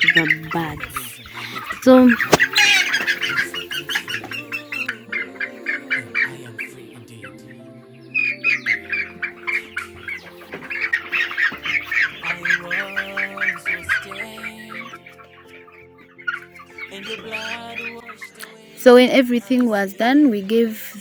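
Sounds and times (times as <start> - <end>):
young poultry squawking and clucking: 0.0 - 18.8
background music with held chords: 0.0 - 21.0.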